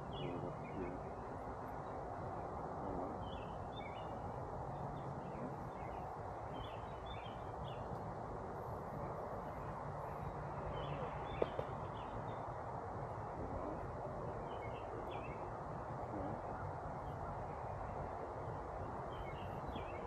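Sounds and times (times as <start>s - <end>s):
small birds chirping faintly: 0.0s - 20.0s.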